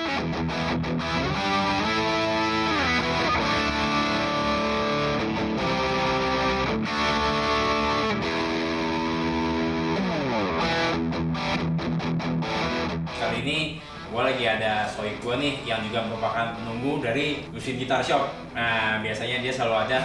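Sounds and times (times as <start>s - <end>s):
distorted electric guitar: 0.0s - 18.8s.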